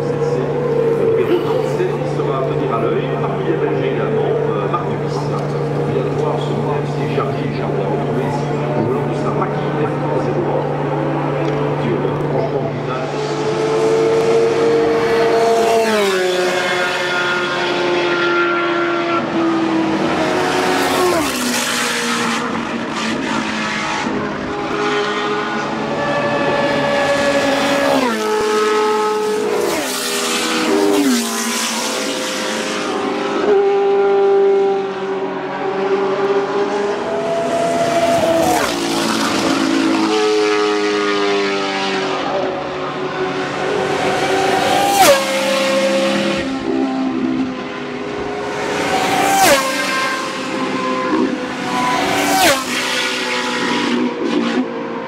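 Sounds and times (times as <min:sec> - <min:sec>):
racing cars passing at full throttle: 0:00.0 - 0:55.0.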